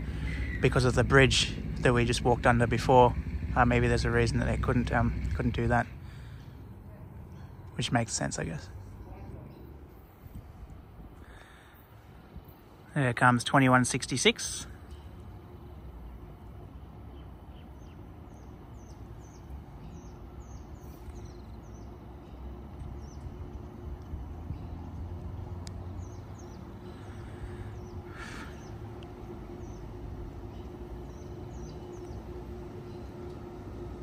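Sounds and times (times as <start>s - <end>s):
birds chirping: 0.0s - 34.0s
tram low rumble: 0.0s - 34.0s.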